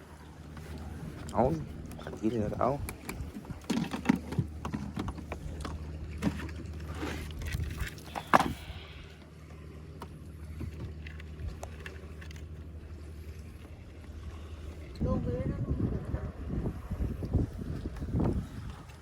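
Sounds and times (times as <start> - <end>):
boat engine humming: 0.0 - 19.0
knocks and clatter on boat: 0.4 - 8.8, 9.8 - 19.0.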